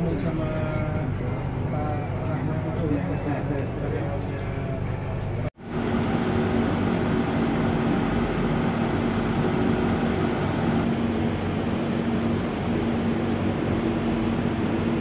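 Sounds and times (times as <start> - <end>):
idling train hum: 0.0 - 15.0.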